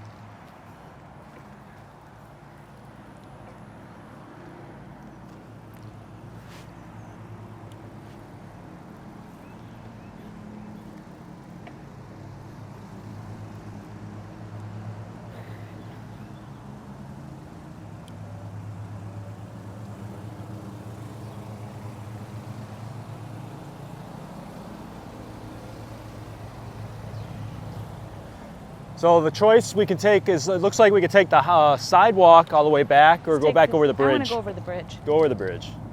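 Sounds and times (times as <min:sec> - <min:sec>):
road traffic drone: 0:00.0 - 0:35.9.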